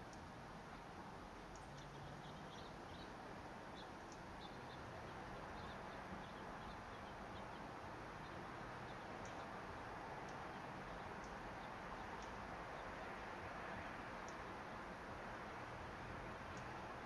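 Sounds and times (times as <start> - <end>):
small birds chipping: 0.0 - 17.0
steady low hiss: 0.0 - 17.0.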